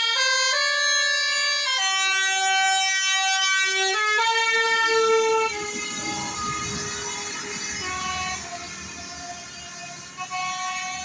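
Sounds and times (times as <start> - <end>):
bus air horns playing a tune: 0.0 - 11.0.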